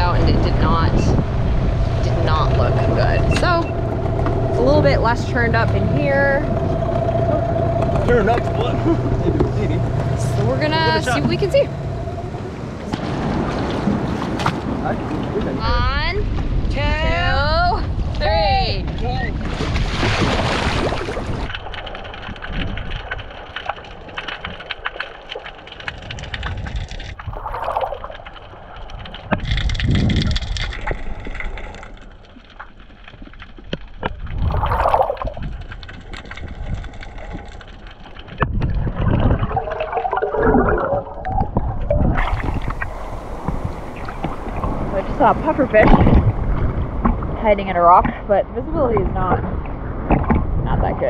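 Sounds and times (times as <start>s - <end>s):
bubbly water surges: 0.0s - 51.0s
water sloshing and gurgling: 0.0s - 51.0s.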